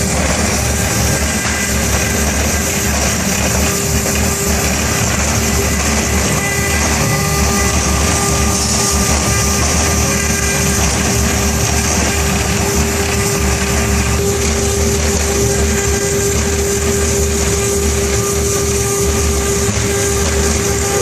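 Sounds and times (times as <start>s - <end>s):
router spindle whine: 0.0s - 21.0s
rumbling machine noise: 0.0s - 21.0s.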